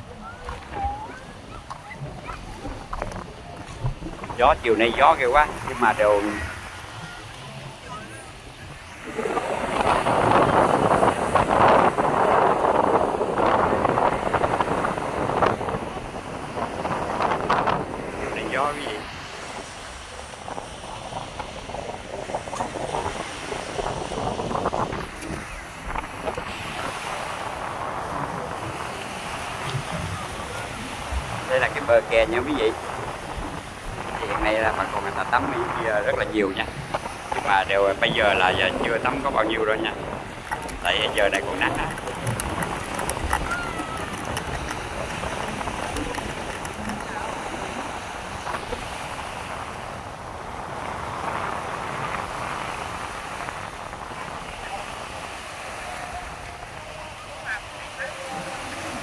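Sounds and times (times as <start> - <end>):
small waves breaking on beach: 0.0 - 59.0
wind buffeting microphone: 0.0 - 59.0.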